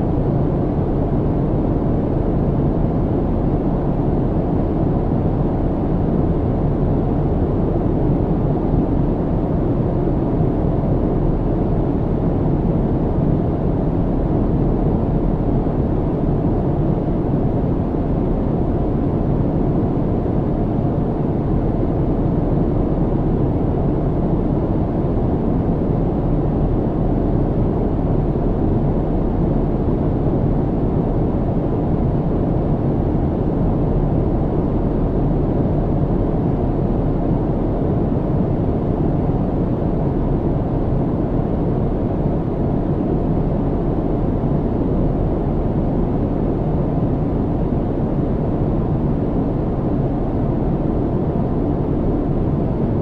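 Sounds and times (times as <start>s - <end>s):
airliner engine and airflow rumble: 0.0s - 53.0s
faint steady hum: 0.0s - 53.0s.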